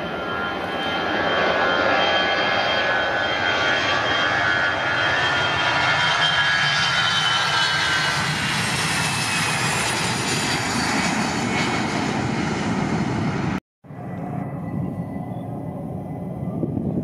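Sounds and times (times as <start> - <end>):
distant jet noise: 0.0 - 17.0
jet engines roaring at takeoff: 0.0 - 17.0.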